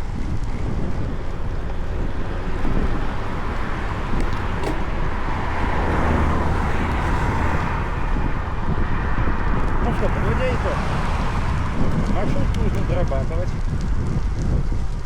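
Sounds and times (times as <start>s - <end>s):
bicycle road noise on asphalt: 0.0s - 15.0s
traffic noise: 0.0s - 15.0s
wind rushing: 0.0s - 15.0s.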